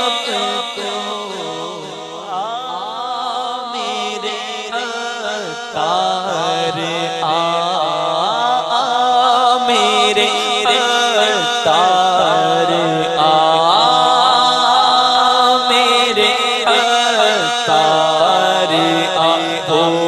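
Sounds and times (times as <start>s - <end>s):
man chanting into microphone: 0.0s - 20.0s.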